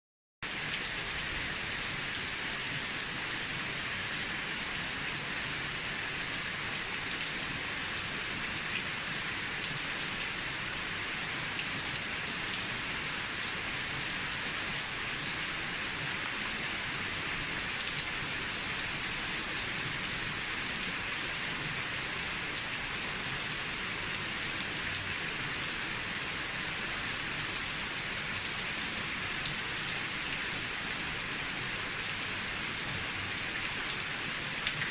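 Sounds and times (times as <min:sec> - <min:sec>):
rain on a roof: 0:00.4 - 0:34.9.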